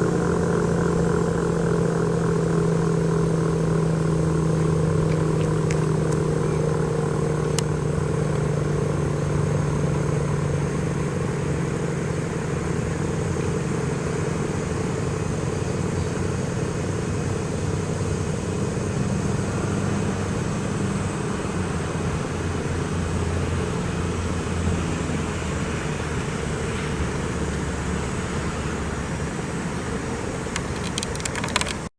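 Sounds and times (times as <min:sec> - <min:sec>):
low rumbling hum: 0:00.0 - 0:31.8.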